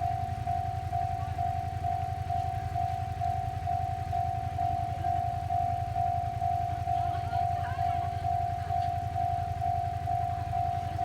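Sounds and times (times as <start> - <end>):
level-crossing warning bell: 0.0 - 11.0.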